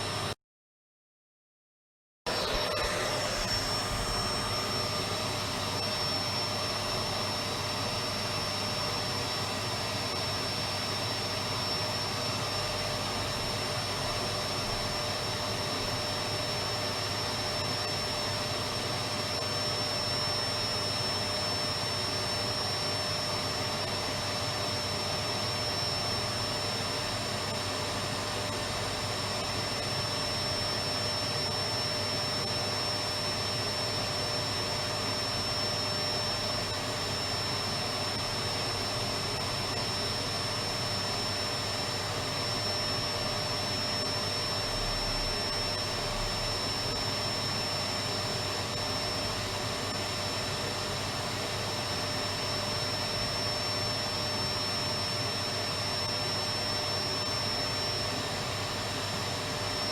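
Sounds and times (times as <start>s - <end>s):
vacuum cleaner running: 0.0s - 0.4s, 2.3s - 59.9s.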